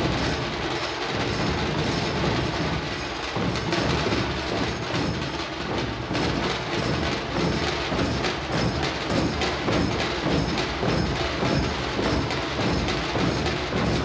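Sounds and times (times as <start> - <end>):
fast barrel drumming: 0.0 - 14.0.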